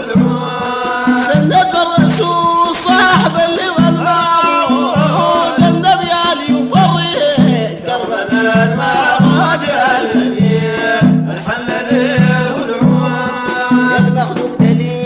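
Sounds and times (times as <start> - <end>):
voices singing a praise song: 0.0 - 15.0.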